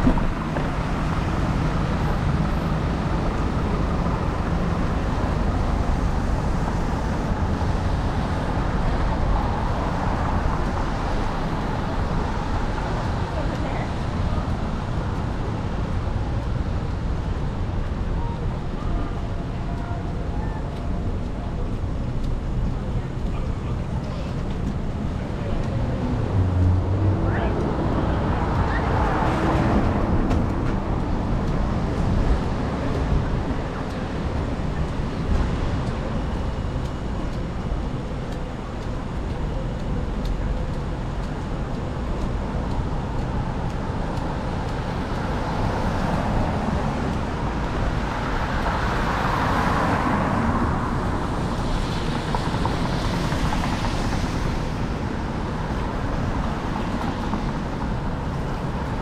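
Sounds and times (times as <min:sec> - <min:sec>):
cars passing on wet road: 0:00.0 - 0:59.0.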